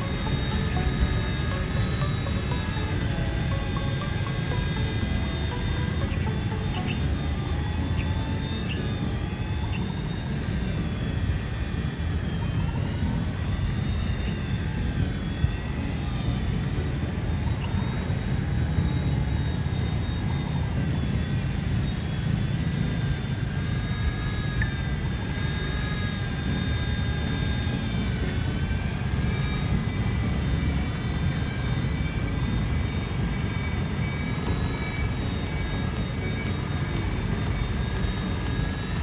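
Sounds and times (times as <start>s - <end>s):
toy helicopter motor whirring: 0.0s - 39.0s.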